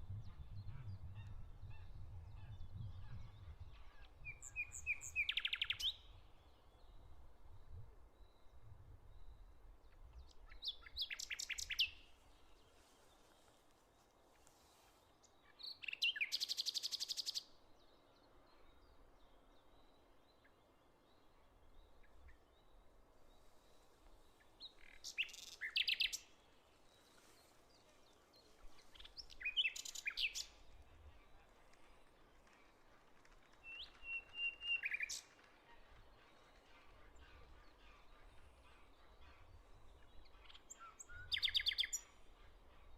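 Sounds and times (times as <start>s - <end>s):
songbirds singing: 0.0s - 13.6s, 14.6s - 32.4s, 33.4s - 42.9s.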